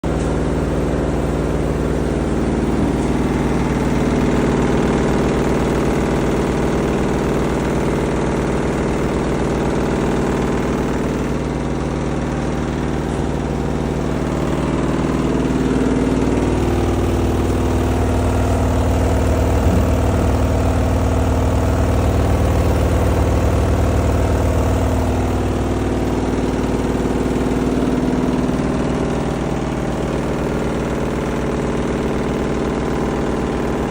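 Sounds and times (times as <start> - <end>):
washing machine humming: 0.0 - 33.9.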